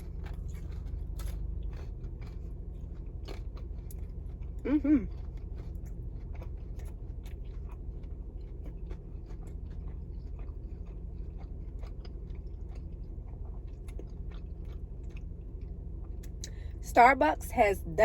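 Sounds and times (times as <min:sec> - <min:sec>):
chewing and crunching: 0:00.0 - 0:16.8
low hum: 0:00.0 - 0:18.0.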